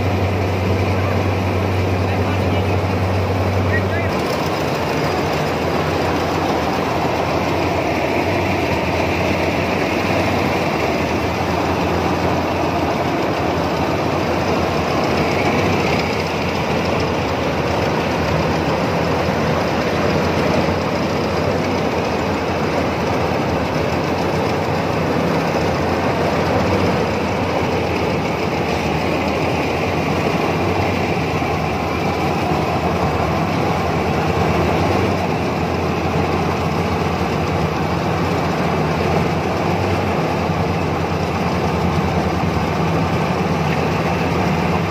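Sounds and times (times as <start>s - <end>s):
combine harvester engine drone: 0.0s - 44.9s.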